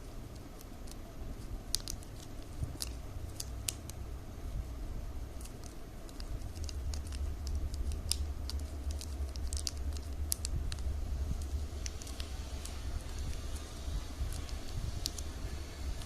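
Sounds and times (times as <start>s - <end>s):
low hum: 0.0s - 16.0s
plastic strips crinkling: 0.3s - 4.0s, 5.3s - 16.0s.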